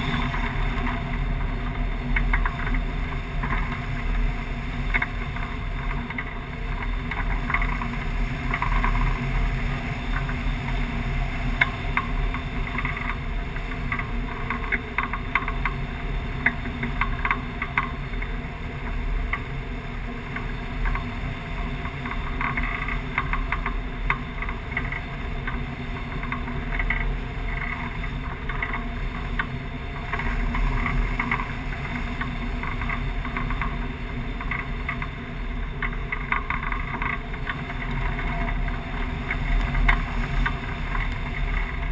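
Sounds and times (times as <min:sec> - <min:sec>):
small ticks and rattles: 0:00.0 - 0:41.9.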